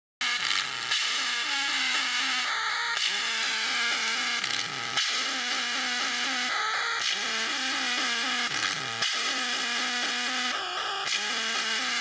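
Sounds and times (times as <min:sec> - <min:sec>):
harsh noisy synthesizer loop: 0:00.2 - 0:12.0.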